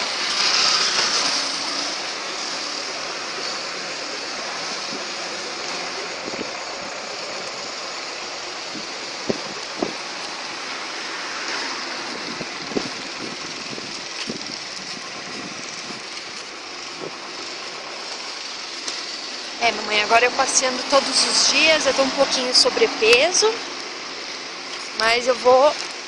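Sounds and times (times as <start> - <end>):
steady hissing noise: 0.0 - 26.0.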